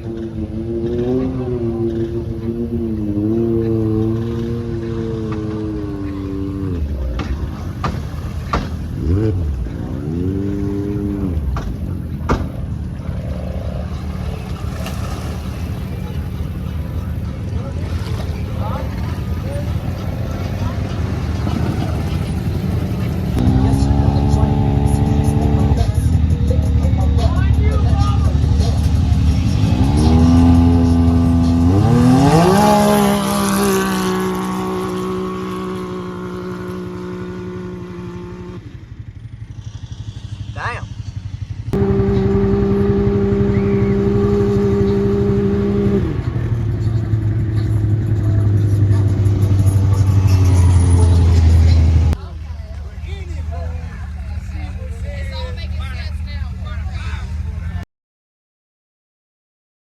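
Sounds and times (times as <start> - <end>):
atv engine revving: 0.0 - 57.8.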